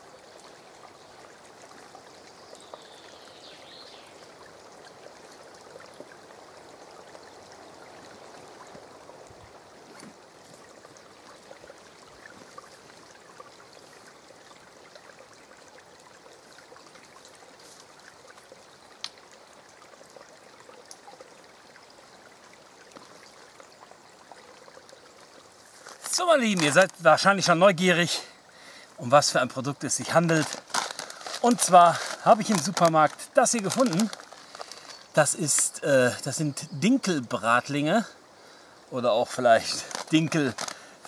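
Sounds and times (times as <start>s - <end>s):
stream trickling over stones: 0.0s - 41.0s.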